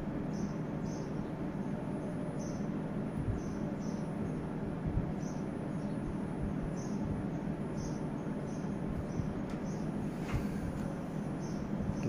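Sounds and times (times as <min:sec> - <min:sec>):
steady low rumble: 0:01.2 - 0:12.0.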